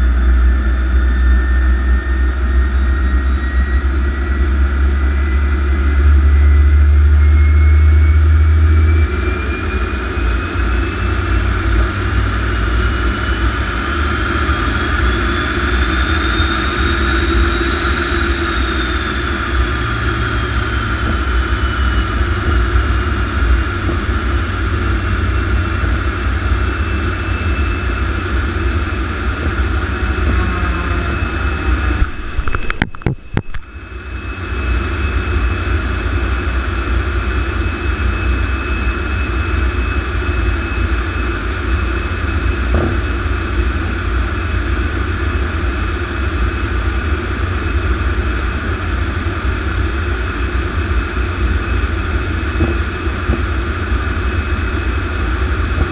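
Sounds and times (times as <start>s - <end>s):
jet engine whine: 0.0s - 55.9s.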